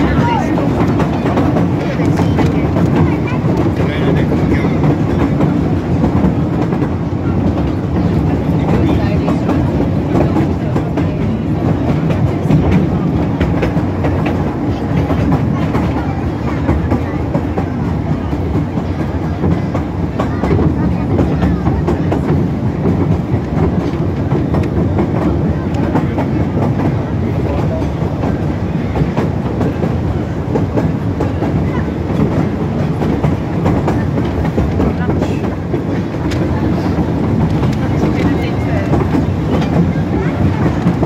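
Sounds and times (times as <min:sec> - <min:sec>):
train wheels rumbling: 0:00.0 - 0:41.0
wheels clacking over rails: 0:00.0 - 0:41.0.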